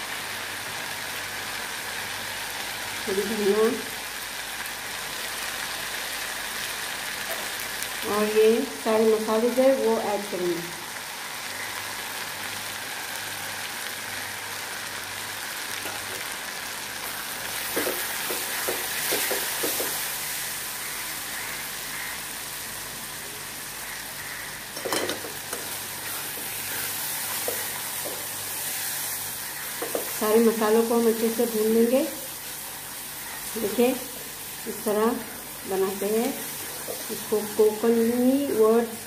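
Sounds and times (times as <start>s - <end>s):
masala sizzling in hot oil: 0.0s - 39.0s.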